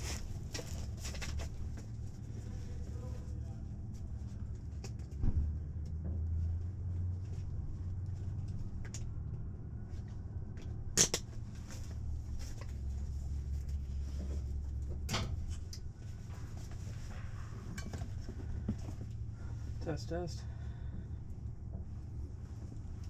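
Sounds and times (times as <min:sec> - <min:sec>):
cockpit noise hum: 0:01.5 - 0:23.0.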